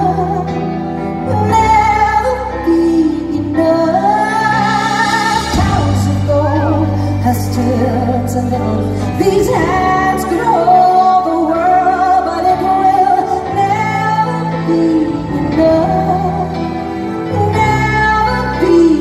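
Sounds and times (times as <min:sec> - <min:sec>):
band accompaniment: 0:00.0 - 0:19.0
woman singing a ballad: 0:00.0 - 0:19.0.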